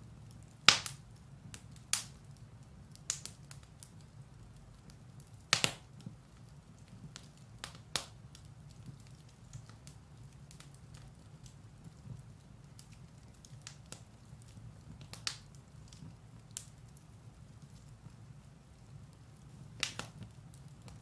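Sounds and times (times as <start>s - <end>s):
fire crackles and pops: 0.0s - 21.0s
low fire rumble: 0.0s - 21.0s.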